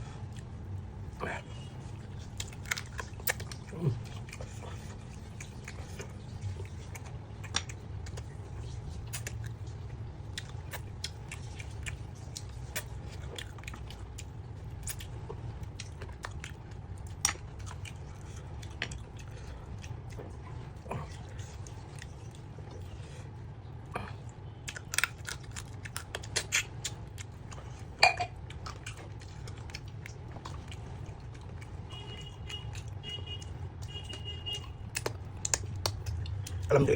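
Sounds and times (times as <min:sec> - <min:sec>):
low background hum: 0:00.0 - 0:36.9
person chewing food: 0:00.0 - 0:36.9.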